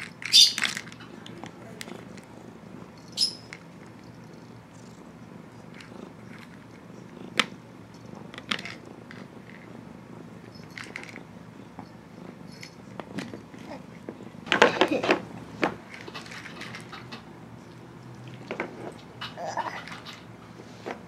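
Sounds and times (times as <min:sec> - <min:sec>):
cat purring: 0:00.8 - 0:20.8.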